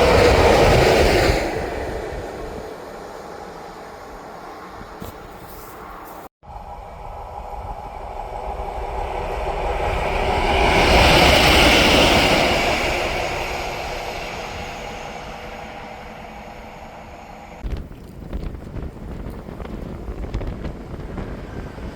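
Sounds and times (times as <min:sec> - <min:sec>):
train passing on track: 0:00.0 - 0:21.9.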